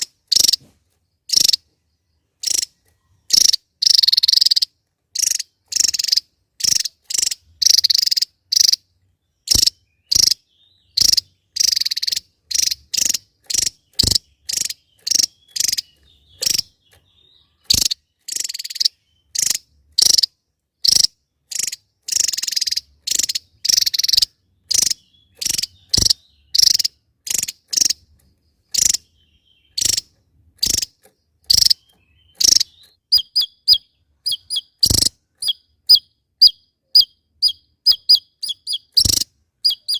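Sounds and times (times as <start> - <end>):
bird calling with buzzy notes: 0.0 - 39.9.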